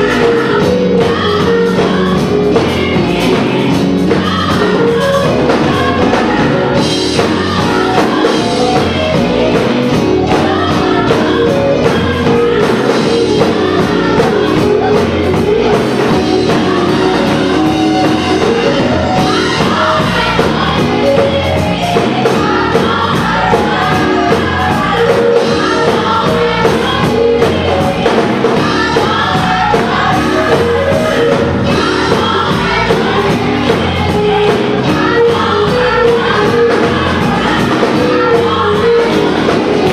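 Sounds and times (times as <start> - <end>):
gospel choir singing: 0.0 - 39.9
live band playing: 0.0 - 39.9.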